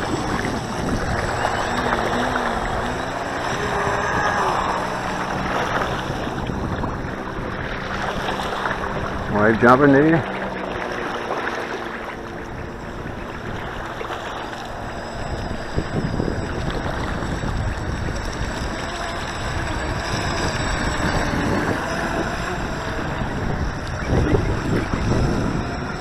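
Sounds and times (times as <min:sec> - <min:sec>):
electric motor whine: 0:00.0 - 0:26.0
wind buffeting microphone: 0:00.0 - 0:26.0.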